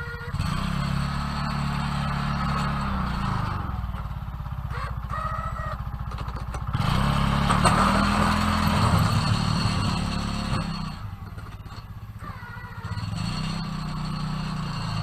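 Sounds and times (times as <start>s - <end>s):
snowplow engine revving: 0.0s - 15.0s.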